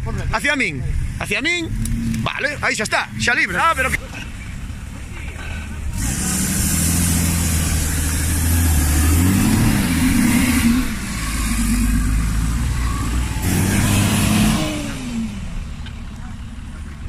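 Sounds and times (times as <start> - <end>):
vehicle engine revving: 1.0 - 17.0.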